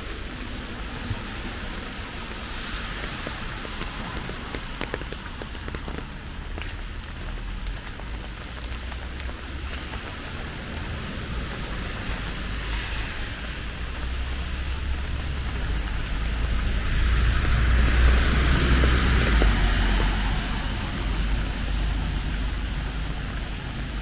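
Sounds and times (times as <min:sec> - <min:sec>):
rain falling on surfaces: 0:00.0 - 0:24.0.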